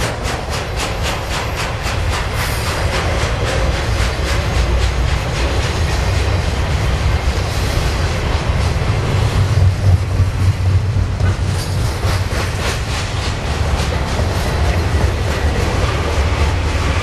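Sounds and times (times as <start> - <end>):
freight train rumbling past: 0.0 - 17.0
wheels clicking over rail joints: 0.0 - 17.0.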